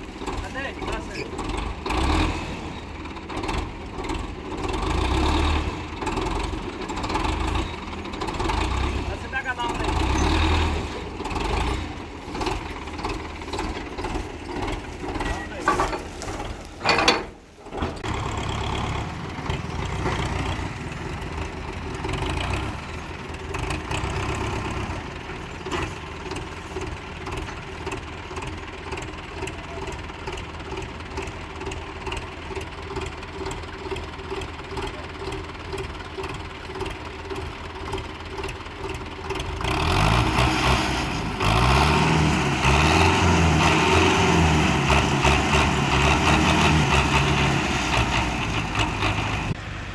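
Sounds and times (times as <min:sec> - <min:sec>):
diesel tractor engine revving: 0:00.0 - 0:49.9.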